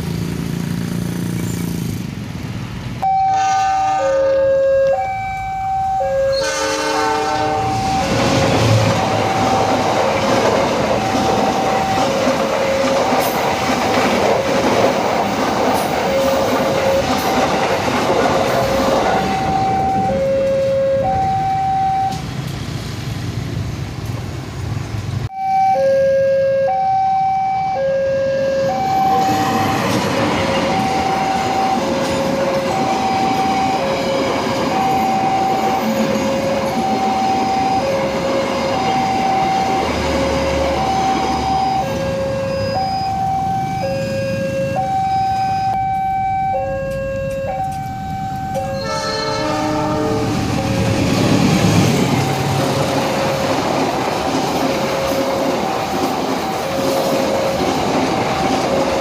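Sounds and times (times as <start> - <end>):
train rumbling on rails: 0.0 - 25.3, 28.0 - 59.0
two-tone crossing alarm: 3.0 - 22.5, 25.3 - 53.5, 54.3 - 59.0.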